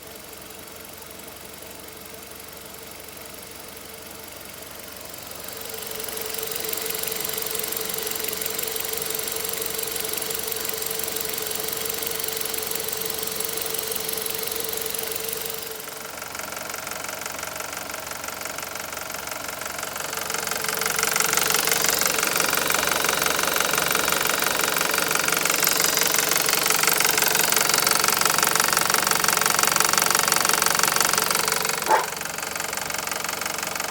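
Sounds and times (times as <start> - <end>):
car engine running with rapid knocking: 0.0 - 33.9.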